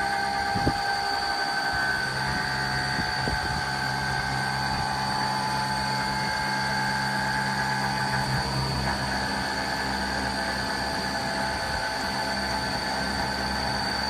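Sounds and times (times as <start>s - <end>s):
low machine hum: 0.0s - 14.0s
router spindle high whine: 0.0s - 14.0s.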